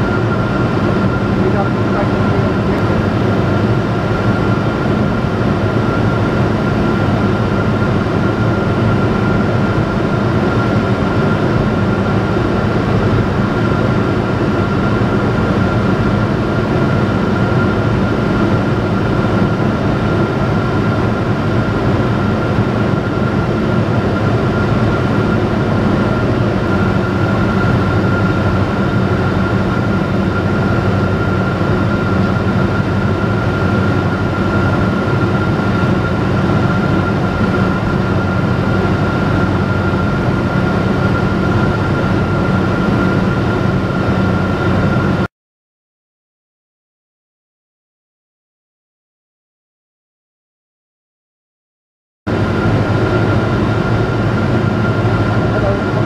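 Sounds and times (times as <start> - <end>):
propeller plane engine drone: 0.0 - 45.3, 52.3 - 56.0.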